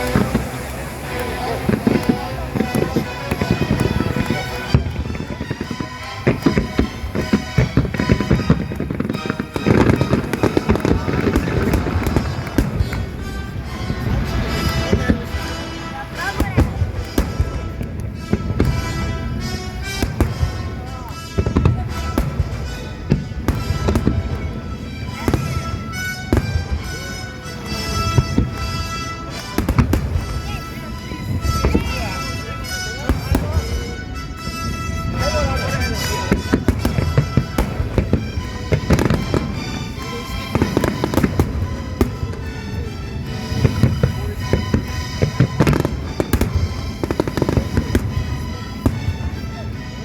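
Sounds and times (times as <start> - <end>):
fireworks bangs: 0.0 - 50.0
music playing: 0.0 - 50.0.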